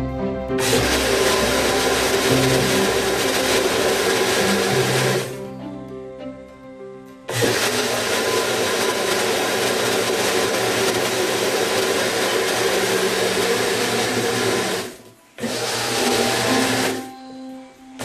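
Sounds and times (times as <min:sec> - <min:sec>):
blender running: 0:00.6 - 0:05.4, 0:07.3 - 0:17.2.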